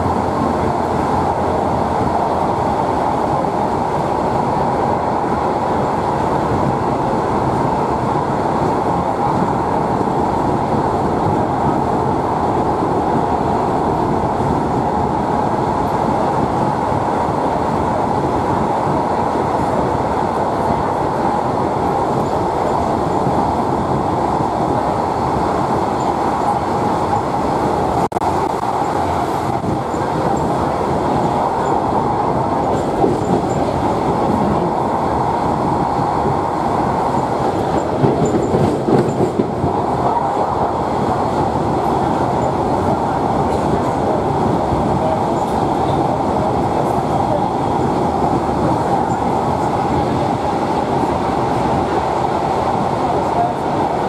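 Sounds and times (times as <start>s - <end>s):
wheels on rail: 0.0s - 54.0s.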